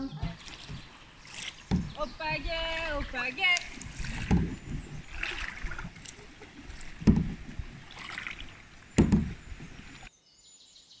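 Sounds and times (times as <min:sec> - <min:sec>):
paddle thumping plastic canoe: 0:00.0 - 0:10.1
faint water wash: 0:00.2 - 0:10.1.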